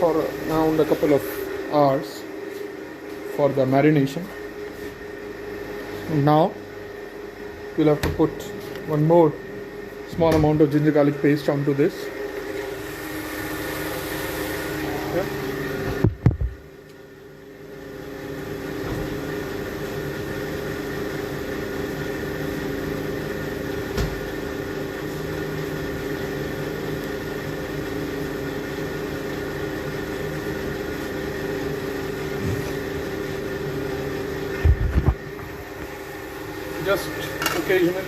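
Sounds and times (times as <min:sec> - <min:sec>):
appliance motor humming: 0:00.0 - 0:38.0.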